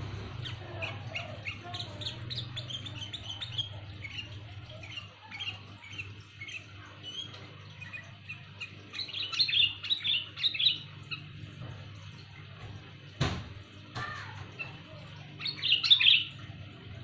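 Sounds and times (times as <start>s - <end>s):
bird chirping: 0.0s - 11.7s, 14.5s - 17.0s.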